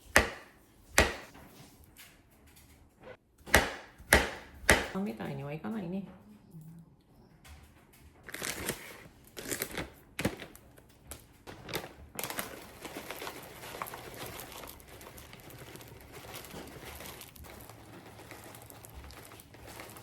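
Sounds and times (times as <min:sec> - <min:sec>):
crinkling and rustling: 0:00.0 - 0:03.4, 0:07.0 - 0:20.0.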